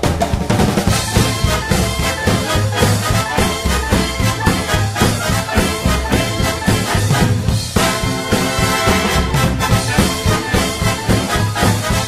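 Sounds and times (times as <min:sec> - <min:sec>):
swing music with brass horns: 0:00.0 - 0:12.0.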